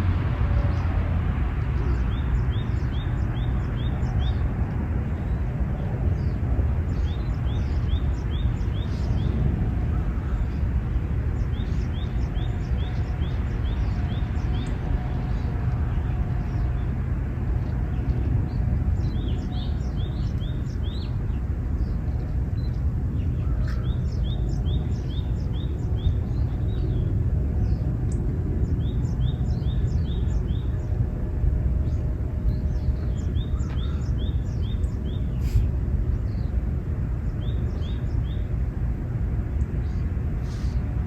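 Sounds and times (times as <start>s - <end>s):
low outdoor rumble: 0.0s - 41.0s
small birds calling: 1.6s - 17.0s, 17.6s - 38.7s, 39.4s - 41.0s.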